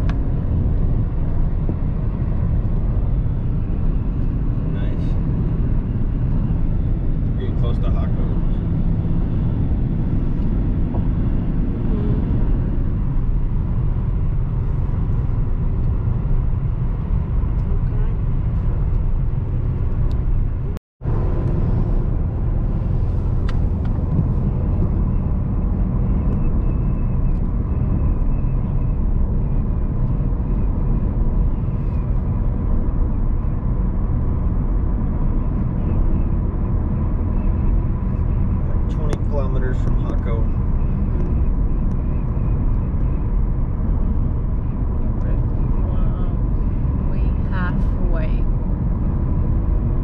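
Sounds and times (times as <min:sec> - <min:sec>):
car engine rumble: 0:00.0 - 0:50.0.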